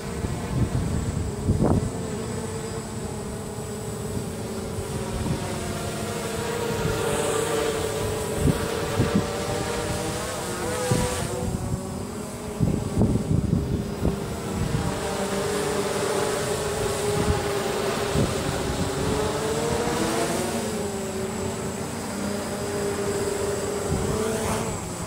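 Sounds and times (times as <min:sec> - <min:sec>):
wind buffeting microphone: 0:00.0 - 0:02.2, 0:04.1 - 0:21.2, 0:22.6 - 0:25.0
drone propellers buzzing: 0:00.0 - 0:25.0.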